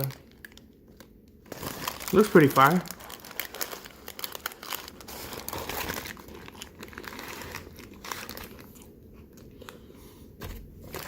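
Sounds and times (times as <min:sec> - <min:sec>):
paper wrapper crinkling: 0:00.0 - 0:11.0.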